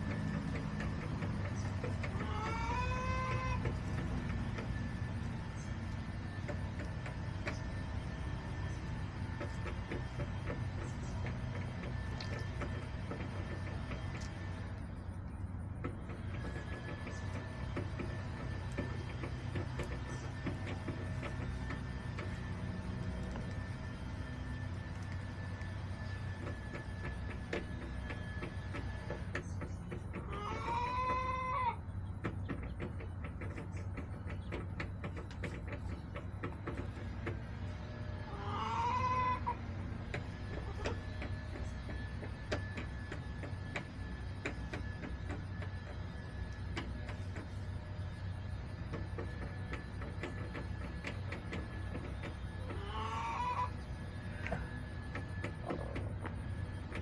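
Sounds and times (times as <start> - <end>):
chickens calling: 0.0 - 57.0
steady low hum: 0.0 - 57.0.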